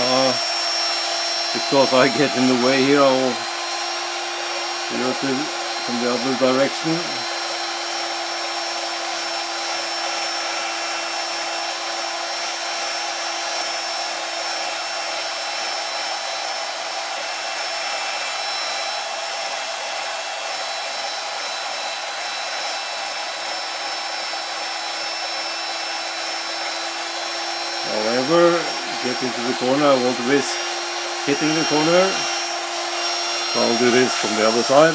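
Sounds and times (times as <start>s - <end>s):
small electric motor humming: 0.0s - 34.9s.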